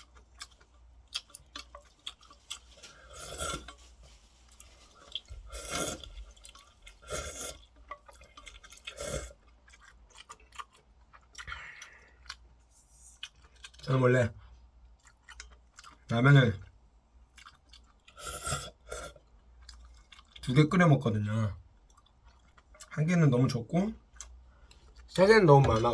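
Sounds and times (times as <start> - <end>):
person chewing: 0.0 - 13.9, 14.9 - 16.1, 17.2 - 20.5, 21.8 - 23.0, 24.0 - 25.9.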